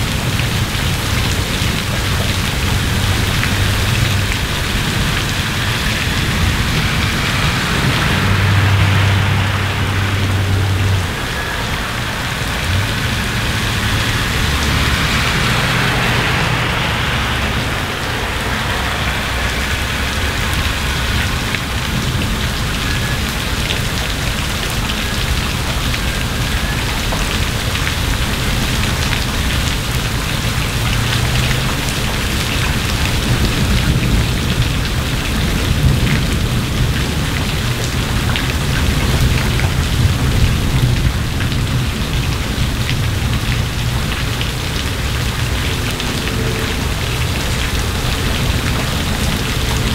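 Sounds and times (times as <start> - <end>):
car tyres hissing on wet road: 0.0 - 49.9
heavy rain on pavement and foliage: 0.0 - 49.9.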